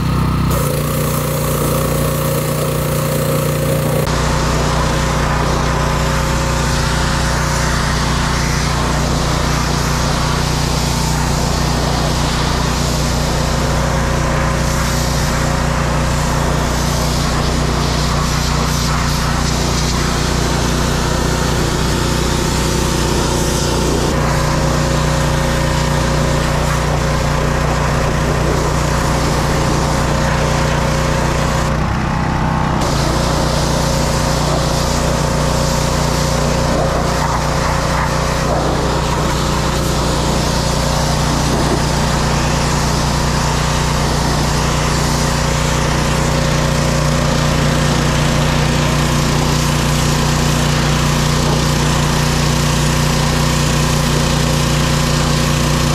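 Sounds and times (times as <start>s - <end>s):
pressure washer engine: 0.0s - 55.9s
water jet spraying on wood: 0.1s - 31.9s, 32.8s - 55.9s.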